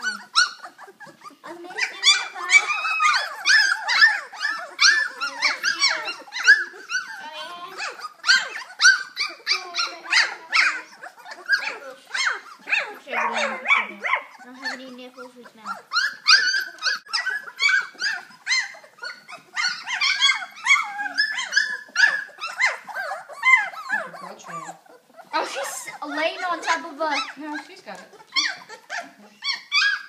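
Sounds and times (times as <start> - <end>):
puppies yipping and squealing: 0.0 - 30.0.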